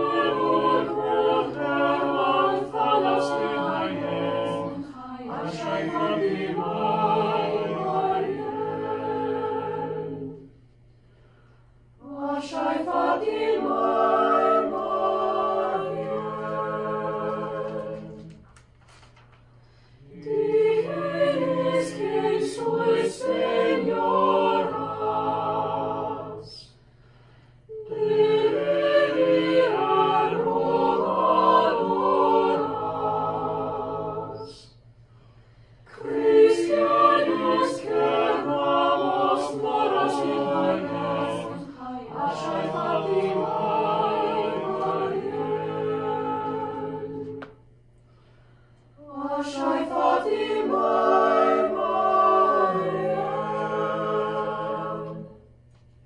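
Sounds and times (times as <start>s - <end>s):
chamber choir singing: 0.0s - 10.6s, 12.0s - 18.4s, 20.0s - 26.8s, 27.7s - 34.8s, 35.9s - 47.7s, 48.9s - 55.6s.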